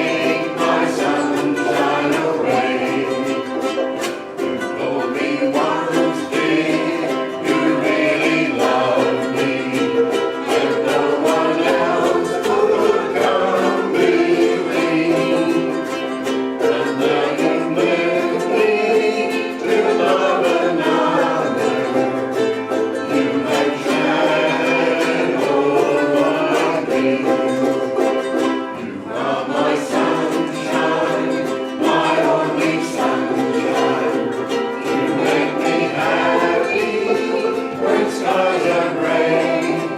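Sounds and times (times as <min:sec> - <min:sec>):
group singing: 0:00.0 - 0:39.9
strummed ukuleles: 0:00.0 - 0:39.9.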